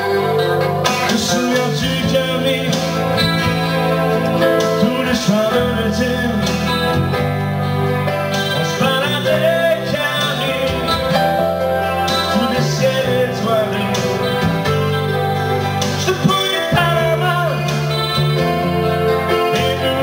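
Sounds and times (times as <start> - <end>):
man singing lead: 0.0 - 7.3, 8.4 - 20.0
live pop-rock band playing: 0.0 - 20.0.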